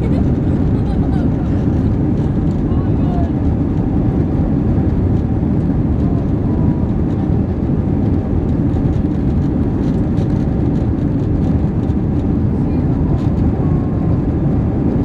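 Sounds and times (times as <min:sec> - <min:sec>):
jet engines rumbling in cabin: 0:00.0 - 0:15.0.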